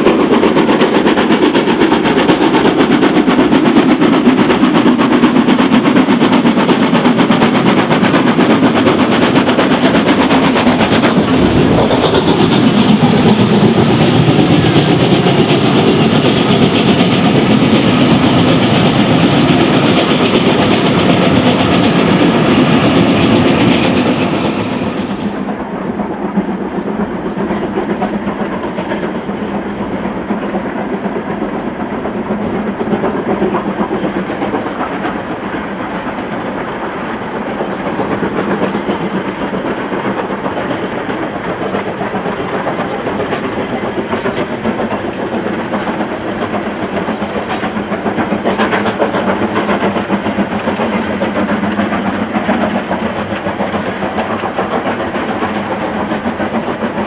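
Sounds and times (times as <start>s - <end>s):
steam locomotive exhaust: 0.0s - 57.0s.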